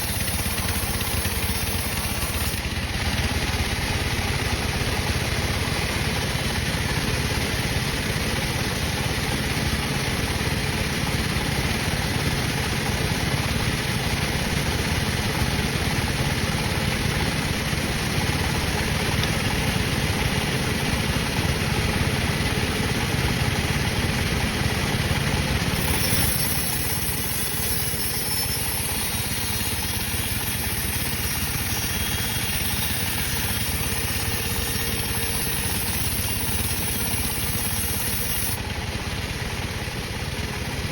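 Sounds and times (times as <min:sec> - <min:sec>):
sawmill saw machinery humming: 0:00.0 - 0:40.9.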